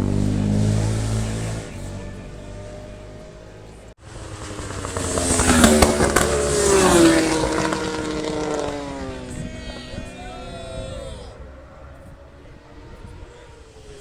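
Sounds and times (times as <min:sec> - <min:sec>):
engine revving: 0:00.0 - 0:14.0
racing motorcycle passing: 0:00.0 - 0:14.0.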